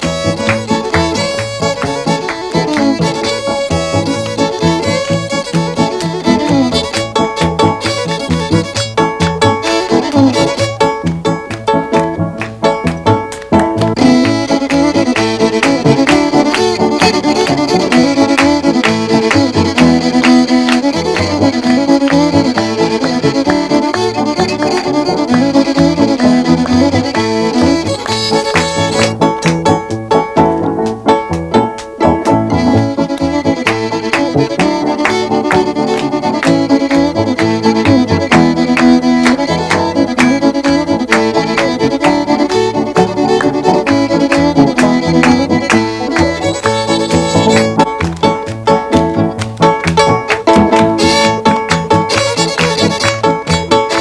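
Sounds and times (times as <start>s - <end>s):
fiddle playing quick tune: 0.0s - 54.0s
steady beat: 0.0s - 54.0s.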